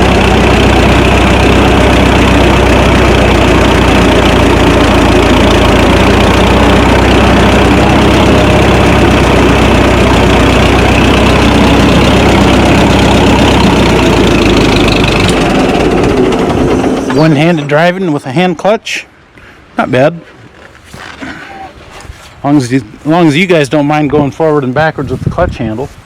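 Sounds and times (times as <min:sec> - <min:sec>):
tractor engine running: 0:00.0 - 0:18.8, 0:20.3 - 0:26.0.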